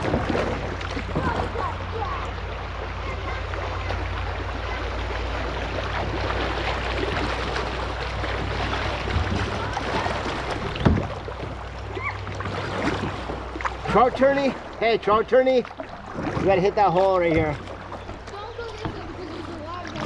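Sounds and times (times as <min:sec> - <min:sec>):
river water washing around kayak: 0:00.0 - 0:20.0.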